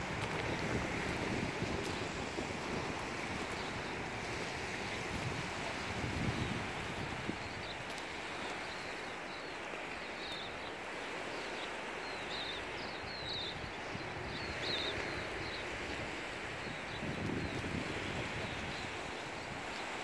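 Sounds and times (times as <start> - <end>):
waves lapping on pebble shore: 0.0 - 20.0.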